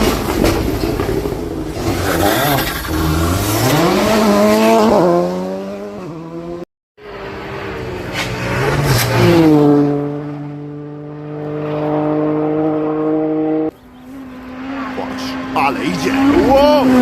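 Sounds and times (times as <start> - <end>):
rally car engines at speed: 0.0 - 17.0.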